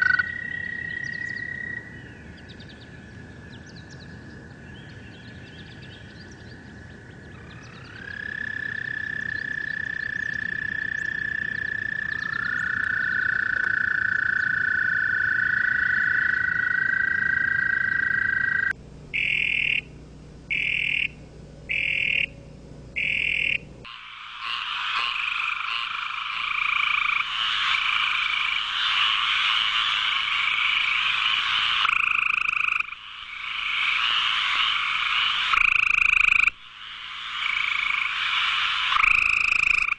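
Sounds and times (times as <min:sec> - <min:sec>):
chorus of frogs calling: 0:00.0 - 0:02.0, 0:05.6 - 0:19.9, 0:20.5 - 0:22.4, 0:23.0 - 0:39.9
toads trilling: 0:00.0 - 0:02.0, 0:06.6 - 0:19.9, 0:20.5 - 0:22.4, 0:23.0 - 0:39.9.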